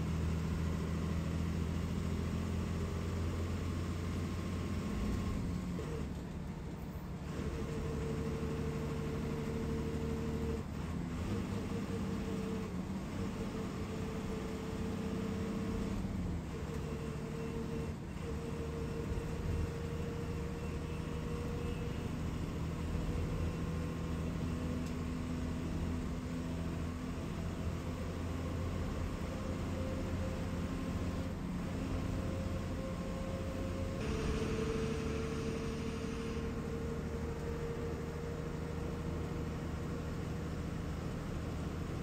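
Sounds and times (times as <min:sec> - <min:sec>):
bus engine drone: 0:00.0 - 0:42.0
road noise inside bus: 0:00.0 - 0:42.0.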